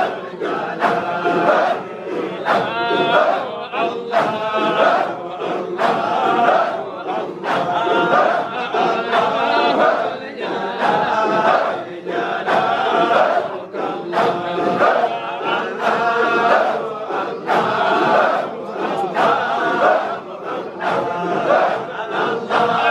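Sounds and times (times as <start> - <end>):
crowd of men chanting: 0.0 - 22.9.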